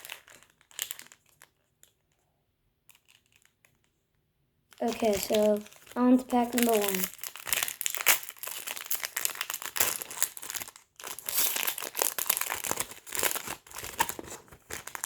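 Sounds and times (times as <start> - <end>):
wrapper tearing and crinkling: 0.0 - 2.0, 2.9 - 3.8, 4.7 - 15.0.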